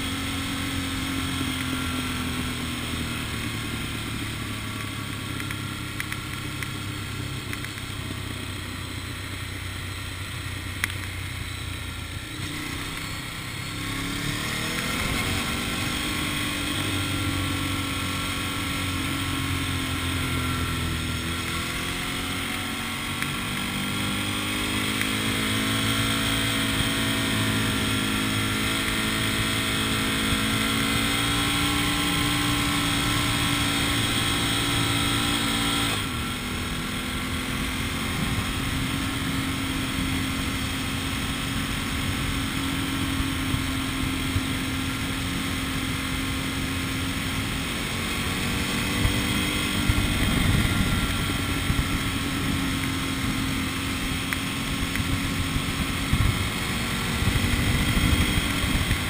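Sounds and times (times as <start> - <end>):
road noise: 0.0 - 59.0
vehicle engine: 0.0 - 59.0.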